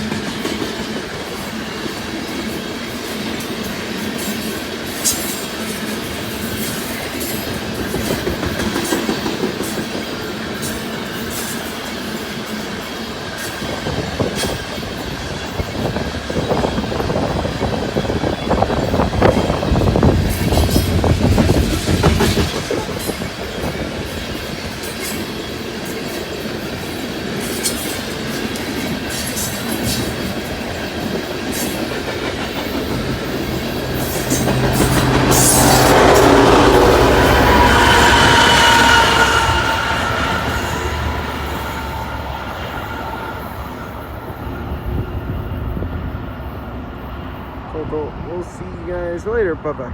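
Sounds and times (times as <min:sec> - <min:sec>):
train wheels clickety-clack: 0:00.0 - 0:44.1
train wheel squeal: 0:00.0 - 0:47.7.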